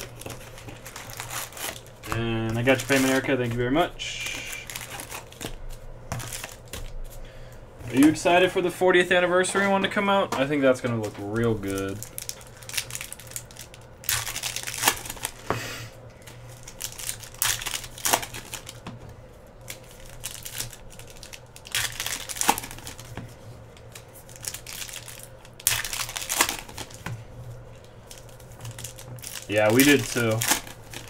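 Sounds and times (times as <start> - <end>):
foil wrappers crinkling: 0.0 - 15.4, 16.2 - 18.9, 19.6 - 31.0
low steady hum: 0.0 - 31.0.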